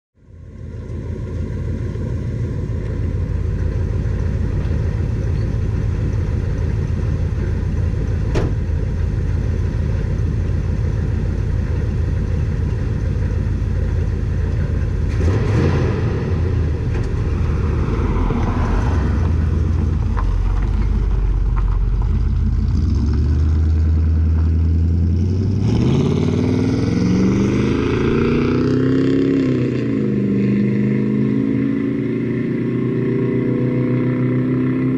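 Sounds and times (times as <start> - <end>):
pickup truck engine rumbling: 0.2 - 34.9.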